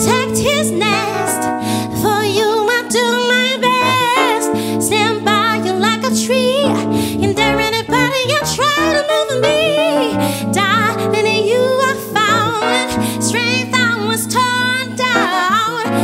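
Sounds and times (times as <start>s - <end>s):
piano and keyboard chords: 0.0s - 16.0s.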